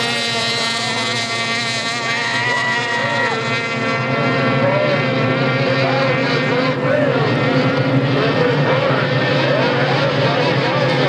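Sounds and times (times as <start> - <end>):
racing outboard motors revving: 0.0 - 11.0.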